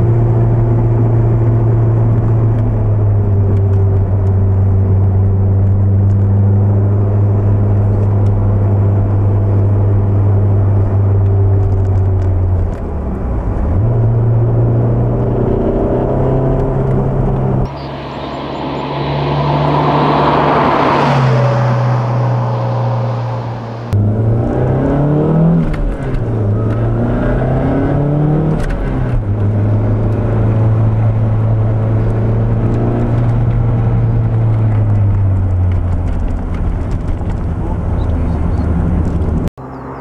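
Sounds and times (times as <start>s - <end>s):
car engine running: 0.0s - 25.0s, 25.6s - 40.0s.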